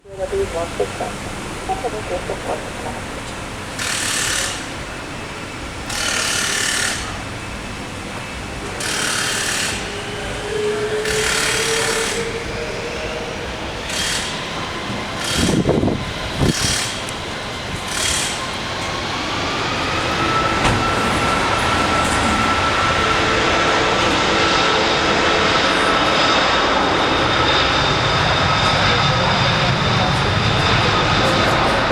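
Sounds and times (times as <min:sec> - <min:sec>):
jet engines whining: 0:00.0 - 0:31.9.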